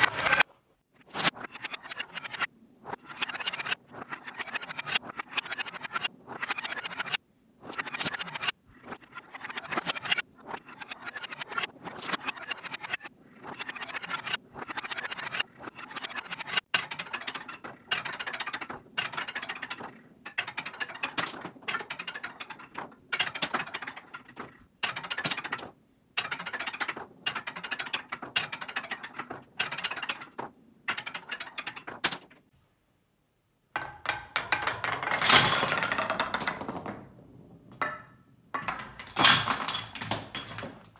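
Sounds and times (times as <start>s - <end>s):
ball rolling on wooden arches: 0.0s - 32.6s, 33.8s - 40.9s
wooden clattering: 1.6s - 32.5s, 33.8s - 40.9s.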